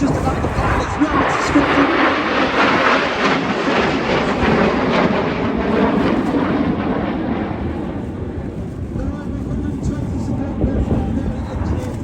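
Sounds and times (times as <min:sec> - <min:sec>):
jet roar: 0:00.0 - 0:12.0.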